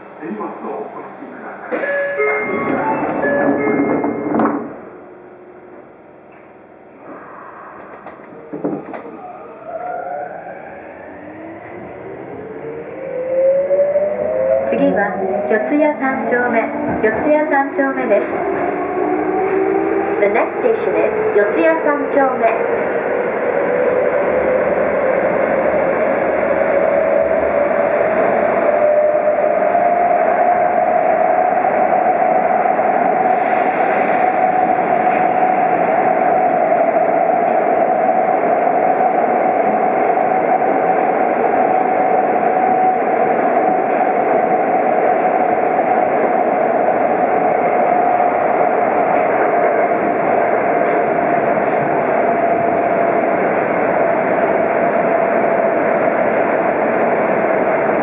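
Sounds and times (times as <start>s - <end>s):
subway train wheels rumbling: 0.0s - 58.0s
train whine: 0.0s - 58.0s.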